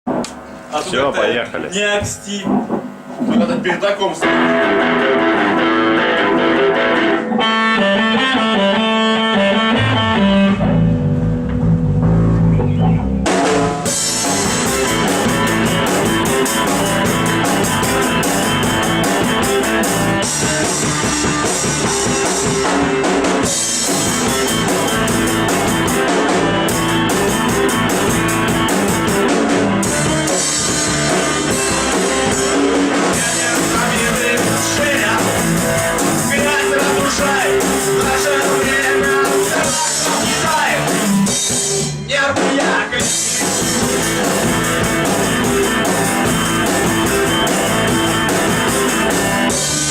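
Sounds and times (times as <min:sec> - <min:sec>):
rock band playing: 0:00.0 - 0:49.9
guitar intro: 0:00.1 - 0:49.9.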